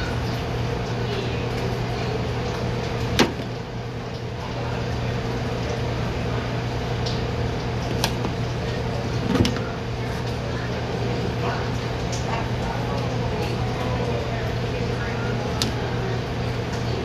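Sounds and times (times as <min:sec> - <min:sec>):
exhaust hood fan humming: 0:00.0 - 0:17.0.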